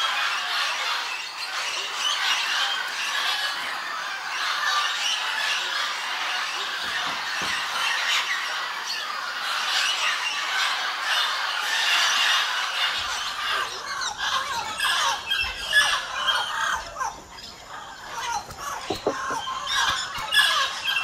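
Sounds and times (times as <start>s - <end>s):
parrots squawking and chattering: 0.0s - 21.0s.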